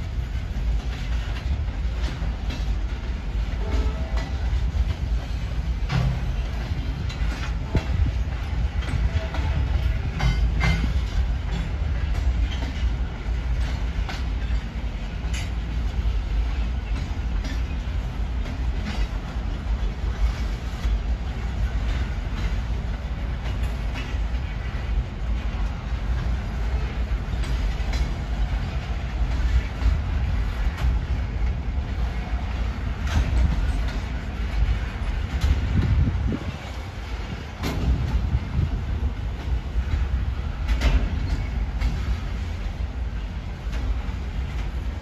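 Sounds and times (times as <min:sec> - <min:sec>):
train rumbling past: 0:00.0 - 0:45.0
wheels clicking and clanking on rails: 0:00.0 - 0:45.0.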